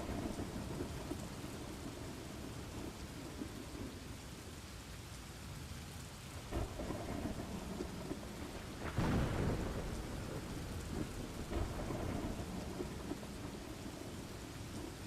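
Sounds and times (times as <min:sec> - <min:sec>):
low rolling thunder: 0:00.0 - 0:04.0, 0:06.4 - 0:15.0
steady rain: 0:00.0 - 0:15.0.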